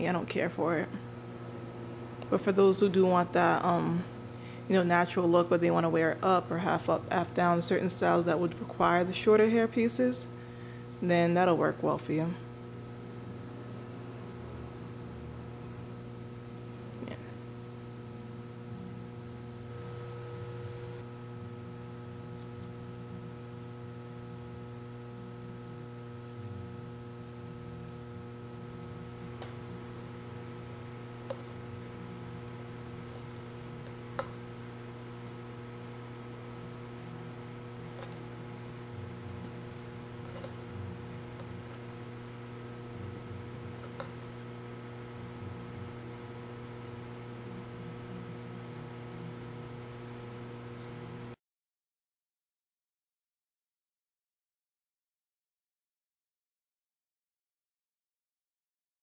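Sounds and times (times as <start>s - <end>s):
electrical mains hum: 0.0s - 51.4s.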